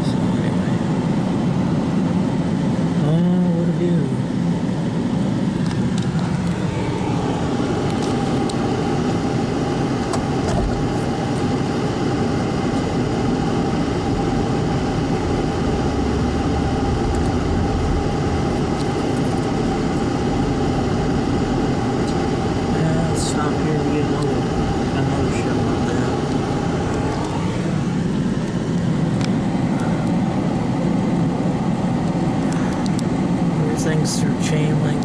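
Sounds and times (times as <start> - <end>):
car engine running: 0.0 - 35.0
road noise inside car: 0.0 - 35.0.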